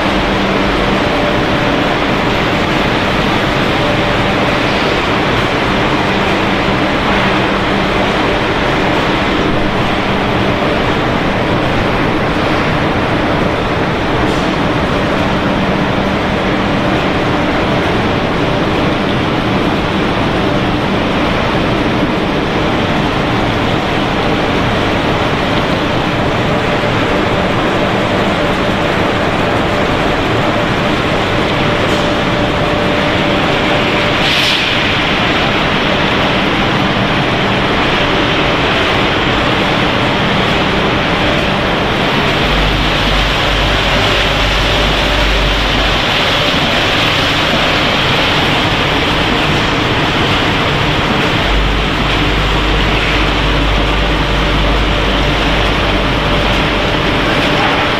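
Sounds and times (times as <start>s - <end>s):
conveyors and motors running: 0.0s - 57.9s
low hum: 0.0s - 57.9s.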